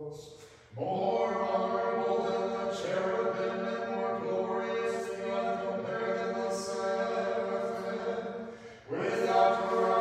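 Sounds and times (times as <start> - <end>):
voices chanting a cappella: 0.0 - 10.0.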